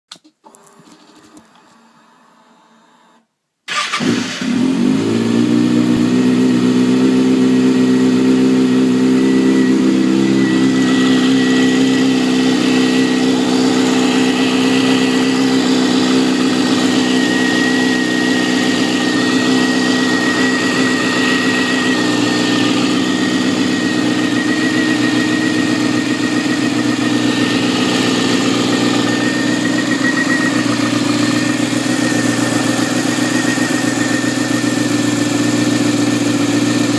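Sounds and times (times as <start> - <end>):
motorcycle engine idling: 4.5 - 36.9
high-pitched whine: 6.0 - 36.2.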